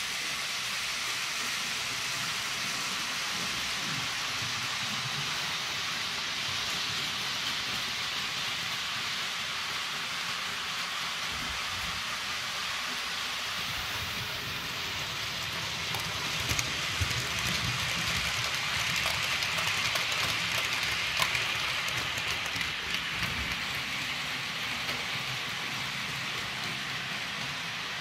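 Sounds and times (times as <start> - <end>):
model train wheels rattling on rails: 0.0 - 28.0.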